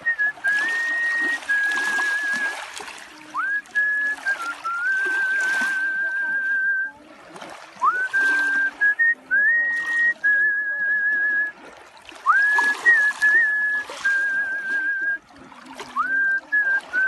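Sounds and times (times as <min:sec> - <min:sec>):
person whistling a melody: 0:00.0 - 0:07.0, 0:07.8 - 0:11.6, 0:12.3 - 0:15.2, 0:15.9 - 0:17.0.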